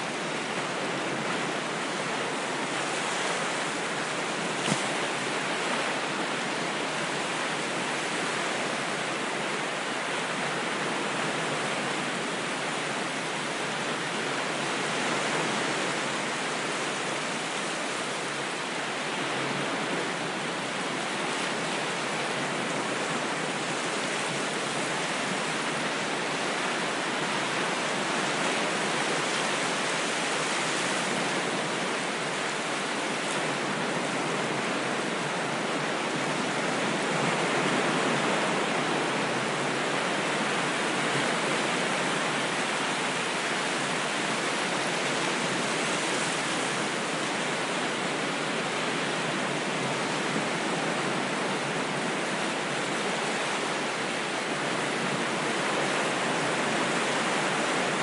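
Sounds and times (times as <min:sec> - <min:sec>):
ocean waves surf: 0:00.0 - 0:58.0.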